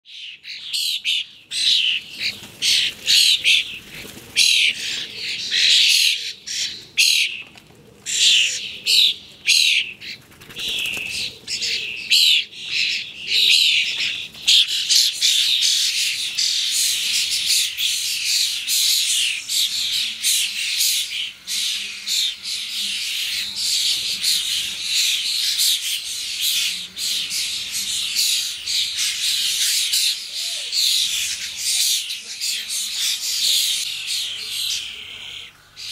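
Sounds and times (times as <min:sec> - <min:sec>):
starlings chattering: 0:00.0 - 0:35.9.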